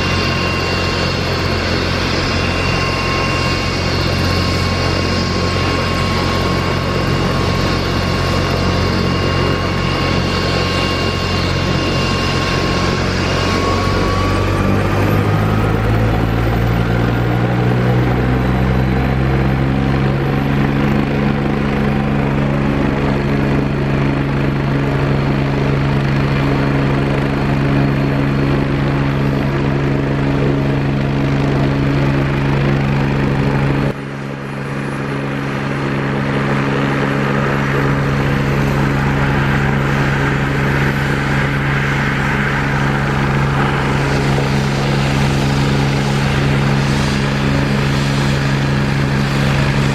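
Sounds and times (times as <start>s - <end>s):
helicopter running: 0.0s - 49.9s
high turbine whine: 0.0s - 49.9s.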